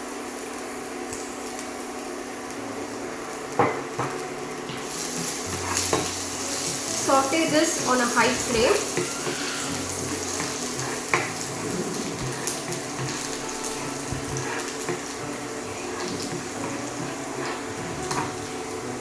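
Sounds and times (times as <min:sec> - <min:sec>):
garlic sizzling in oil: 0:00.0 - 0:19.0.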